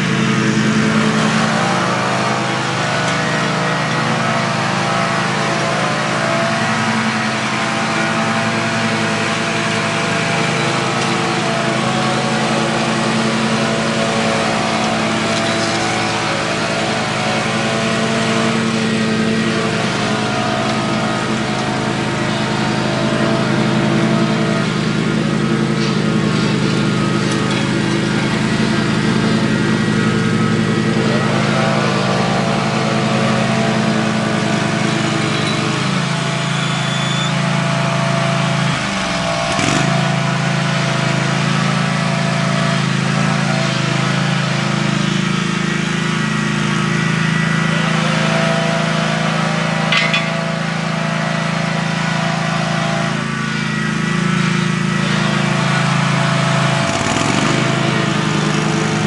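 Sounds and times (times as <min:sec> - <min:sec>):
mower engine running: 0:00.0 - 0:59.0.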